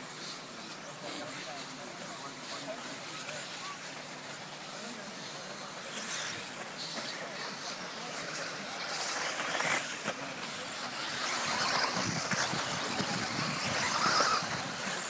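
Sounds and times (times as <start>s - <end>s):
radio-controlled cars racing: 0.0s - 15.0s.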